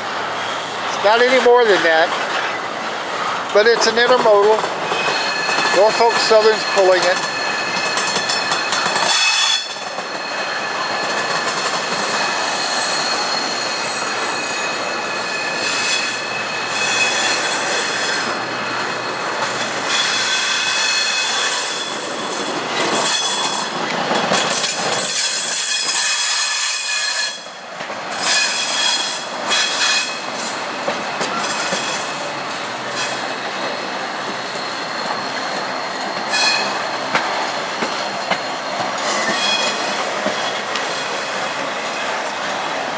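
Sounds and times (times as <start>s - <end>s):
steel wheels squealing on rail: 0.0s - 42.9s
train rumble and clatter: 0.0s - 42.9s.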